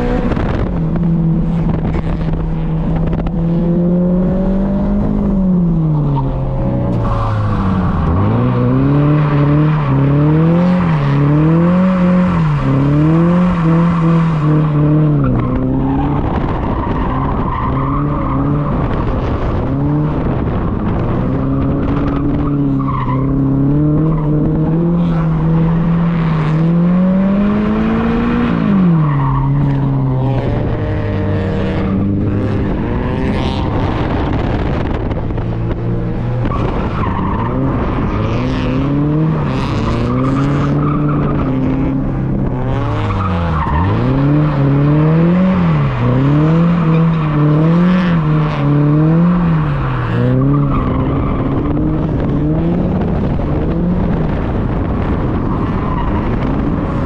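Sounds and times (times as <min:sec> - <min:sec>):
car engine revving: 0:00.0 - 0:57.0
tyres skidding and squealing: 0:04.8 - 0:57.0.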